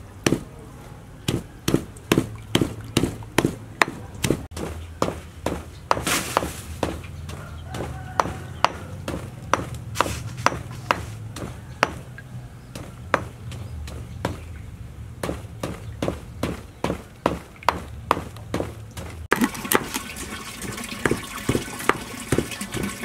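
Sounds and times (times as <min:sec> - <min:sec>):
pestle knocking in stone mortar: 0:00.3 - 0:00.5, 0:01.3 - 0:14.5, 0:15.2 - 0:19.3, 0:21.0 - 0:22.9.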